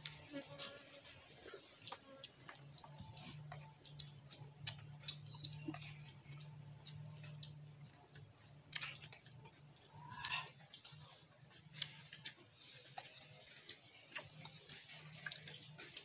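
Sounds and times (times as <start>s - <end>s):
faint low hum: 0.0s - 16.0s
chewing smacks: 0.6s - 16.0s.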